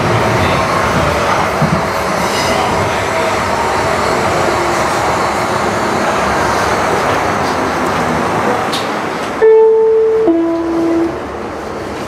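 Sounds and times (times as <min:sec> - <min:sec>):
light rail car rolling on track: 0:00.0 - 0:12.0.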